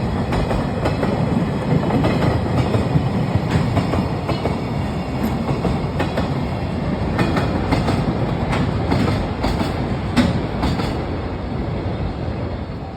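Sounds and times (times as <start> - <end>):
wheels clacking over rail joints: 0.0 - 11.1
train wheels rumbling on rail: 0.0 - 12.9.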